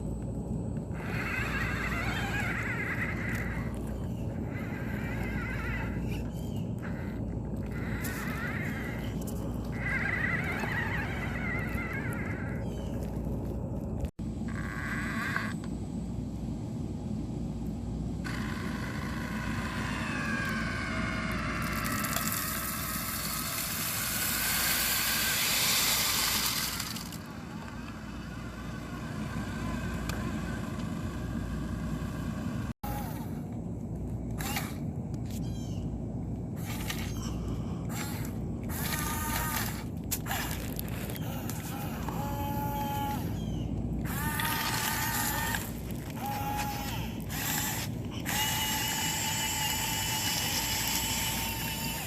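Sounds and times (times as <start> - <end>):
small electric motors whining: 0.0 - 15.7, 18.2 - 33.6, 34.3 - 35.7, 36.6 - 52.0.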